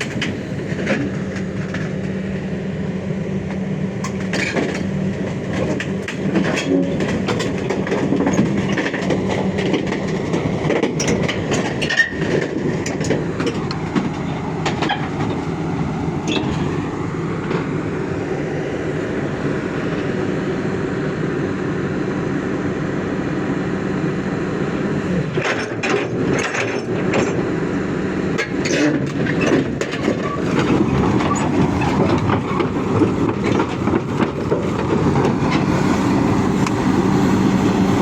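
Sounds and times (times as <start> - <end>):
steel tracks clanking: 0.0 - 2.5, 3.4 - 20.3, 25.1 - 38.0
excavator diesel engine running: 0.0 - 38.0.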